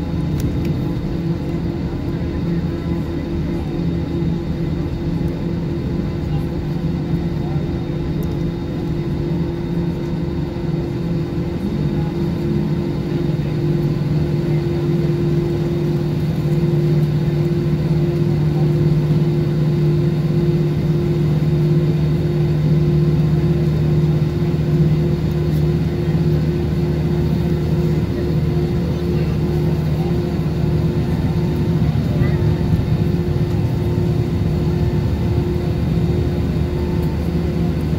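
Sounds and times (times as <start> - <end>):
jet engines humming: 0.0 - 37.9.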